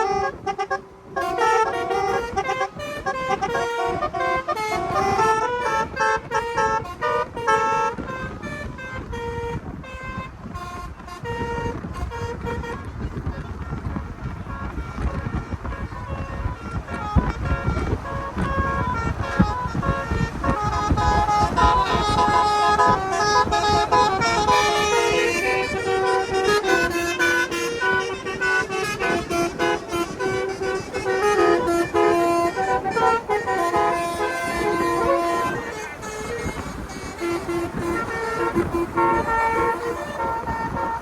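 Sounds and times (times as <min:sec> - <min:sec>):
air horn playing a tune: 0:00.0 - 0:41.0
vehicle rumble: 0:00.0 - 0:41.0.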